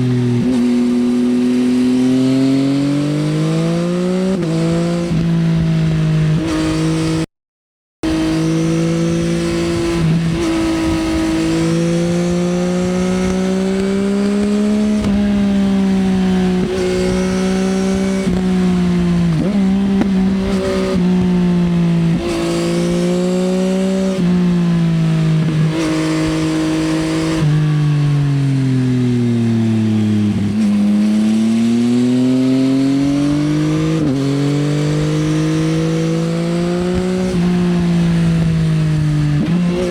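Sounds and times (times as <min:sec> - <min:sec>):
motorcycle engine at speed: 0:00.0 - 0:07.3, 0:08.0 - 0:39.9.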